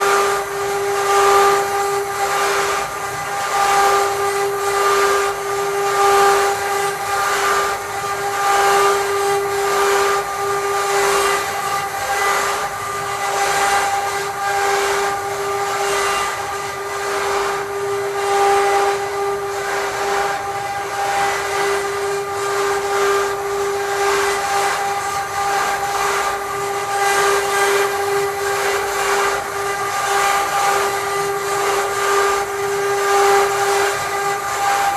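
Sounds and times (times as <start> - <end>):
router bit cutting wood: 0.0 - 34.9
router spindle whine: 0.0 - 34.9.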